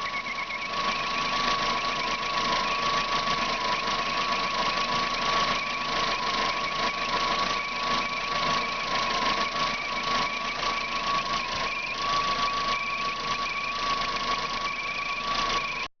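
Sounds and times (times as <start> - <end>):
faint wavering squeal: 0.0 - 15.9
high-pitched whistle: 0.0 - 15.9.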